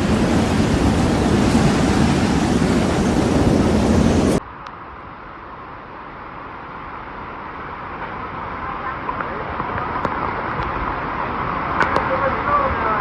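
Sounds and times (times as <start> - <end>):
heavy rain: 0.0 - 13.0
steady background noise: 0.0 - 13.0.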